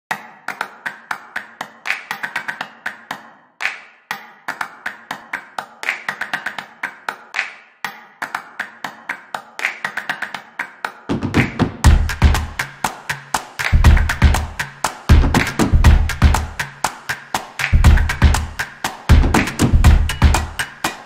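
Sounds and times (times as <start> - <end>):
light percussive music: 0.1 - 21.0.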